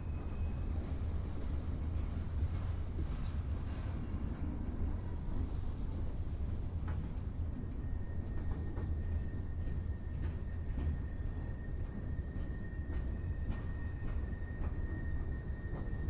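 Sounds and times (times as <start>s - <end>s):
train rolling on tracks: 0.0s - 16.0s.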